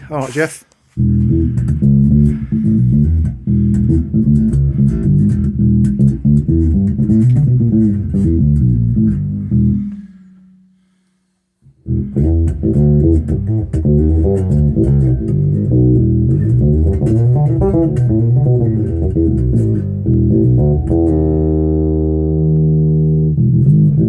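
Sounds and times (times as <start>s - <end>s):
electric bass plucked notes: 1.0s - 10.8s, 11.7s - 24.0s.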